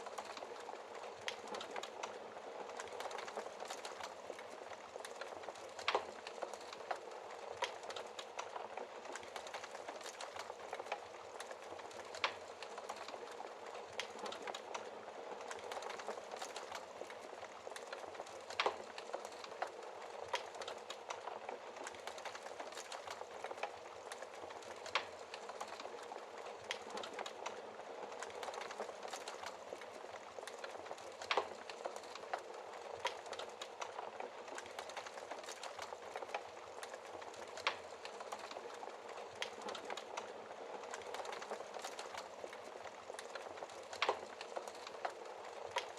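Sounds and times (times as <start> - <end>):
fire snapping: 0.0 - 45.9
wood fire crackling: 0.0 - 45.9.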